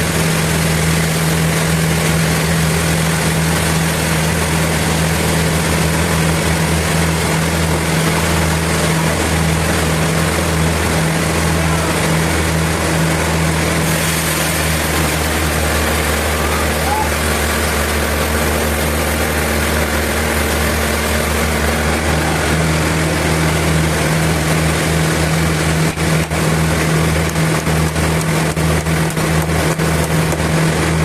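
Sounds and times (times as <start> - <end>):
sawmill machinery humming: 0.0 - 31.0.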